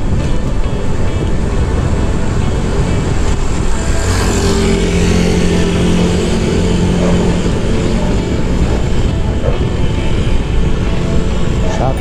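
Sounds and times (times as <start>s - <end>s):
bicycle road noise: 0.0s - 12.0s
motor vehicle engine humming: 0.0s - 12.0s
wind noise: 0.0s - 12.0s.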